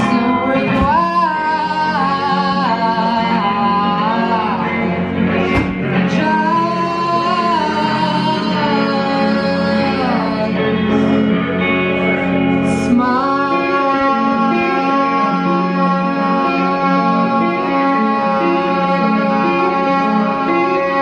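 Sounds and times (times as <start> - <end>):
guitar accompaniment: 0.0 - 21.0
person singing long held notes: 0.0 - 21.0.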